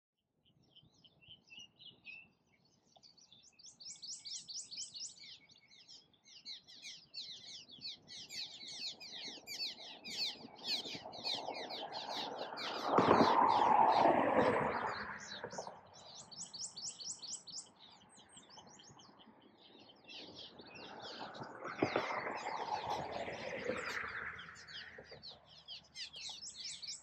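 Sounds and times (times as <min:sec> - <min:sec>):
swallows twittering and chirping: 0:00.6 - 0:27.0.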